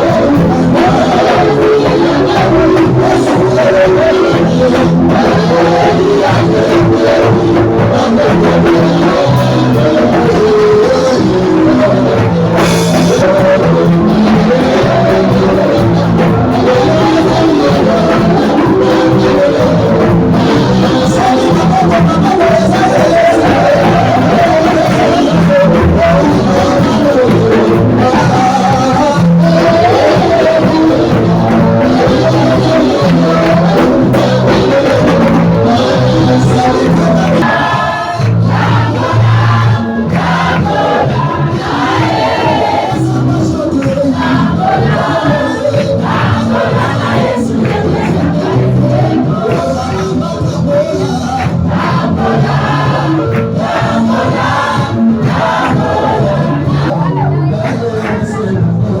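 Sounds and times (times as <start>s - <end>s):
worship music singing: 0.0s - 59.0s.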